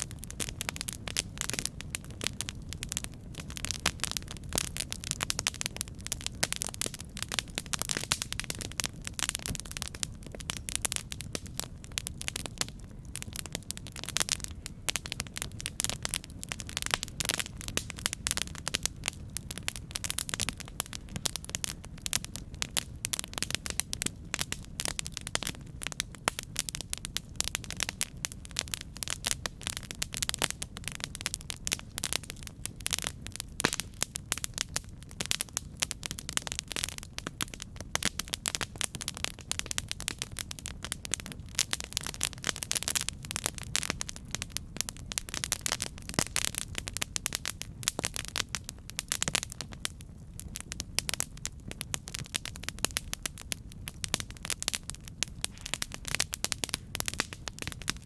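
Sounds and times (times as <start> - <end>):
burning wood crackling and popping: 0.0 - 58.0
low rumble of flames: 0.0 - 58.0.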